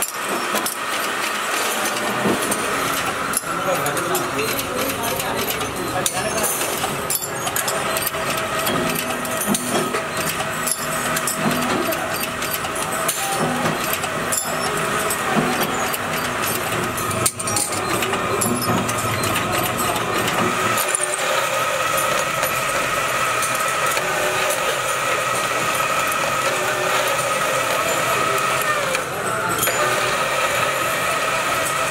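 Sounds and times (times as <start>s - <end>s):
high machine hum: 0.0s - 31.9s
metalworking machinery running: 0.0s - 31.9s.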